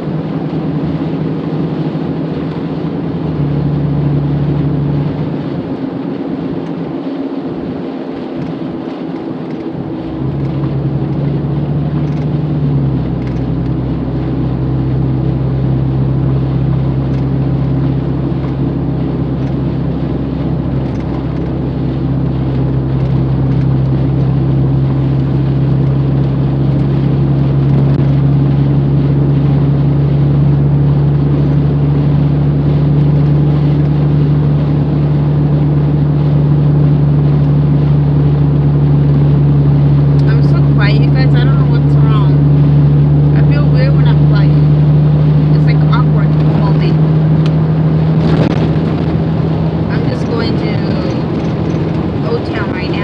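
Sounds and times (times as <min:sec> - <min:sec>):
car engine drone: 0:00.0 - 0:53.0
road and tyre noise: 0:00.0 - 0:53.0.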